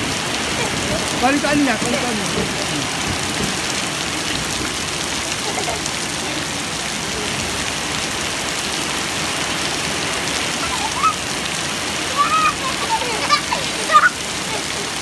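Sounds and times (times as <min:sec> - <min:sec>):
heavy rain on gravel and puddles: 0:00.0 - 0:15.0.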